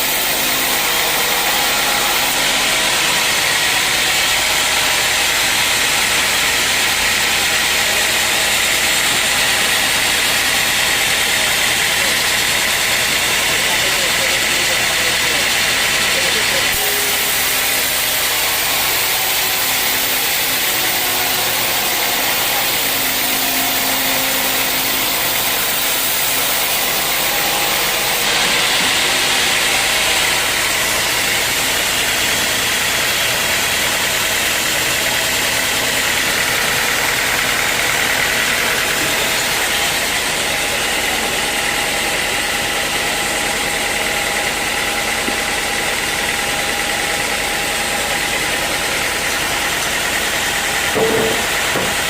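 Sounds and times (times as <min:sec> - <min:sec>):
sawmill sawing wood: 0:00.0 - 0:52.0.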